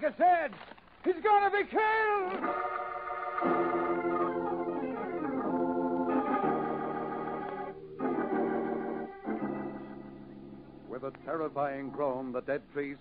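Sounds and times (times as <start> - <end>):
dramatic organ chords: 2.4 - 13.0.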